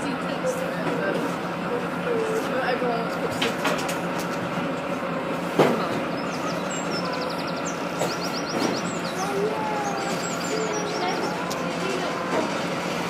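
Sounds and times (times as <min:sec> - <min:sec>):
lorry engine idling: 0:00.0 - 0:13.0.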